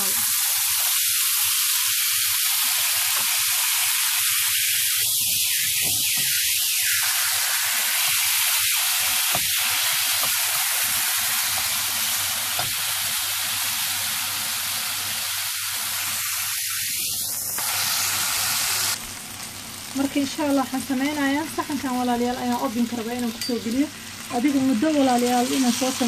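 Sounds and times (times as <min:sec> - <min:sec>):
meat sizzling in oil: 0:00.0 - 0:26.0.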